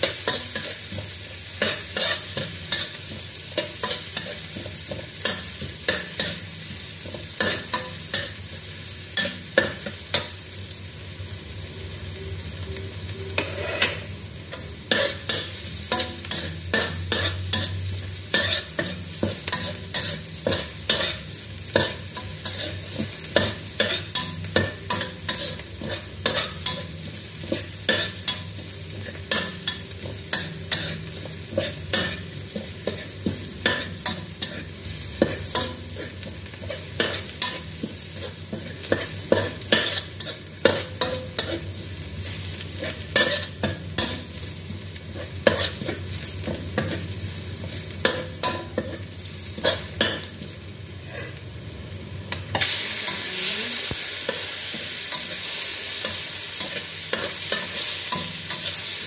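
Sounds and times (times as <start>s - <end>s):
metal spatula scraping wok: 0.0s - 8.4s, 12.7s - 41.9s, 42.7s - 51.4s, 54.3s - 59.0s
food sizzling in hot oil: 0.0s - 59.0s.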